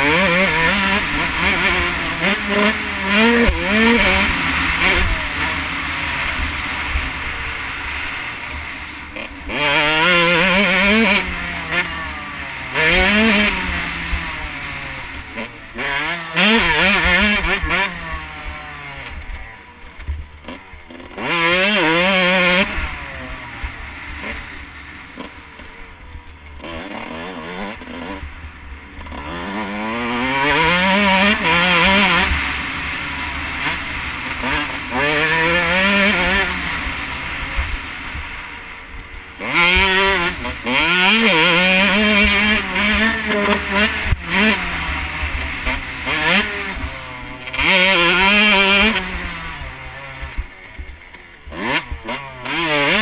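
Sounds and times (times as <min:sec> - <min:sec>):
motocross engine revving: 0:00.0 - 0:53.0.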